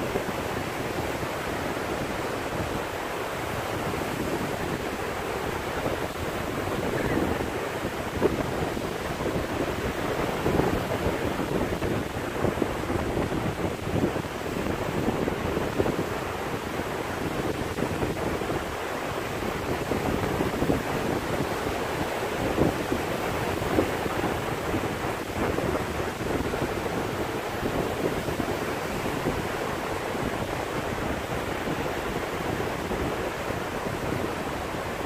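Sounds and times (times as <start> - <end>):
small waves breaking on beach: 0.0 - 35.0.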